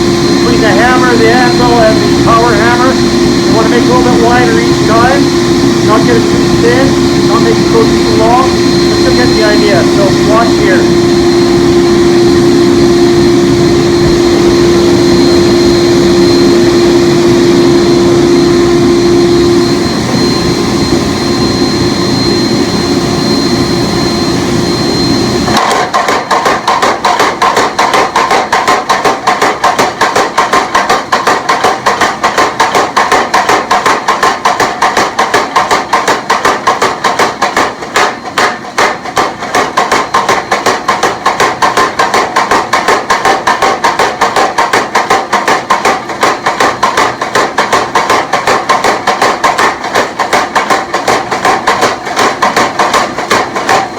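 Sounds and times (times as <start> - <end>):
power hammer striking hot steel: 0.0 - 53.9
steady mechanical hum: 0.0 - 53.9.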